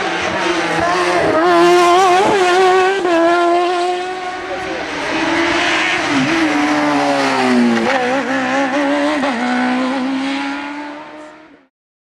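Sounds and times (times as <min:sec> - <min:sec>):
racing car engine running: 0:00.0 - 0:11.5.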